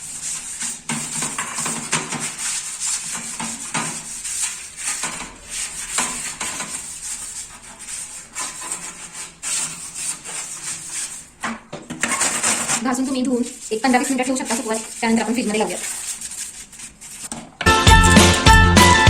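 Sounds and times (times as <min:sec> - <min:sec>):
scrubber rubbing on glass: 0:00.0 - 0:11.4, 0:12.0 - 0:17.4.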